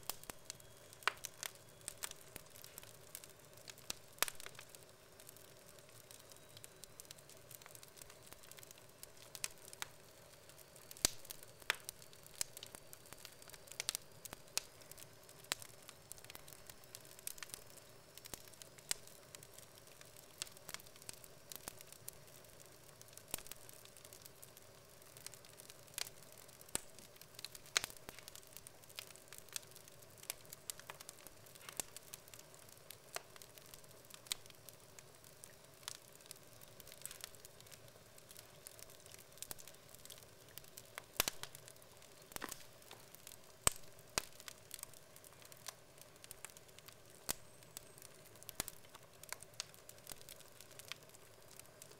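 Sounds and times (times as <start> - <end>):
faint fire hiss: 0.0 - 51.9
logs crackling and popping: 0.0 - 51.9.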